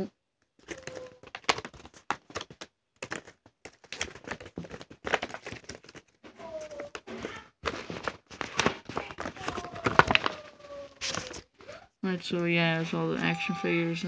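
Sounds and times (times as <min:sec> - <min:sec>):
paper and packaging crinkling: 0:00.6 - 0:14.0.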